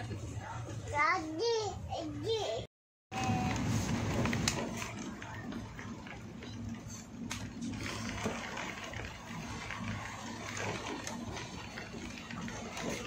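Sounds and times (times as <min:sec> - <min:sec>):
train coach hum: 0:00.0 - 0:13.0.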